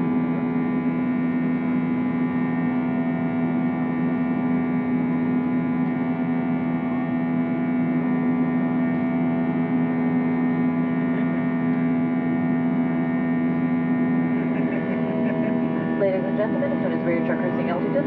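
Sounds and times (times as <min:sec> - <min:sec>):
jet engine cabin drone: 0:00.0 - 0:18.0.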